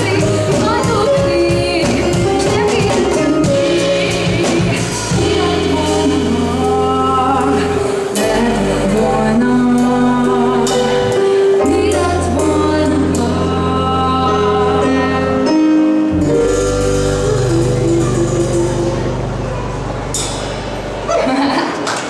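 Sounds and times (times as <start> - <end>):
woman singing: 0.0 - 19.6
bass notes: 0.0 - 21.8
drum kit with cymbals: 0.0 - 21.8
keyboard: 0.0 - 22.0.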